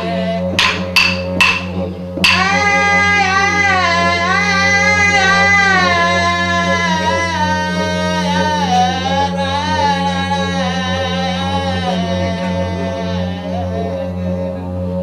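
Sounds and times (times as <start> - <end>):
didgeridoo drone: 0.0 - 15.0
person singing: 0.0 - 15.0.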